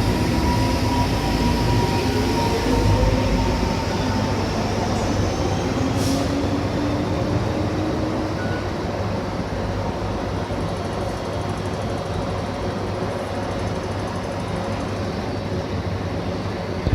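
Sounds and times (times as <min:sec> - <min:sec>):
electric train rumbling: 0:00.0 - 0:16.9.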